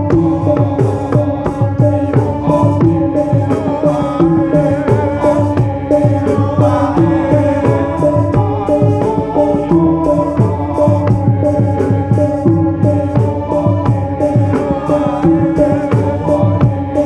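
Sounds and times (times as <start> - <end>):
electronic organ notes: 0.0 - 17.0
rapid hand-drum strokes: 0.0 - 17.0.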